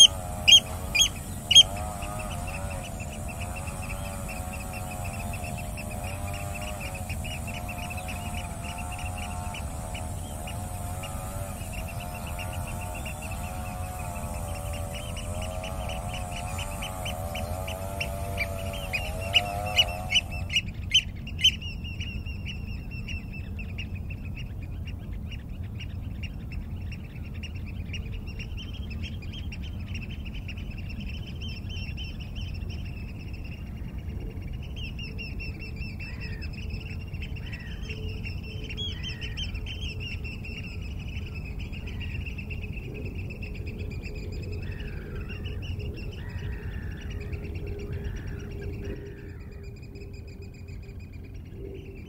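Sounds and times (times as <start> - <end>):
pulsing chorus of chirps: 0.0 - 25.2, 25.8 - 52.0
bird calls: 0.0 - 52.0
low steady rumble: 0.0 - 52.0.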